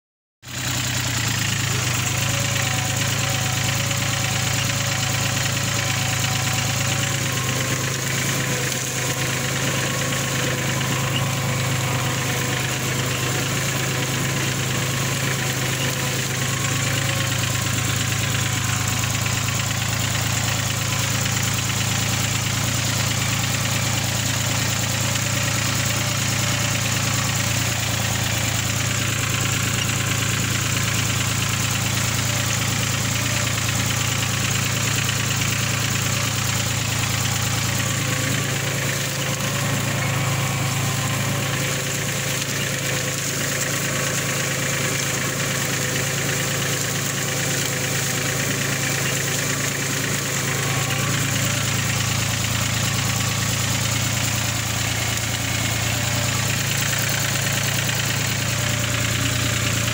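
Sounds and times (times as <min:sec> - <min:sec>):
tractor diesel engine droning: 0:00.4 - 0:59.9.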